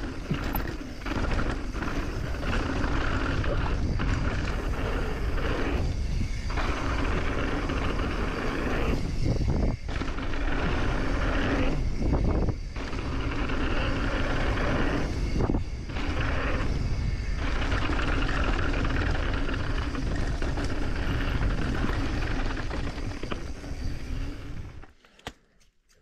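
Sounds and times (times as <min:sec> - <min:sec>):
bike tyres on dirt: 0:00.0 - 0:11.8, 0:12.5 - 0:25.1
wind rushing on microphone: 0:00.0 - 0:24.8.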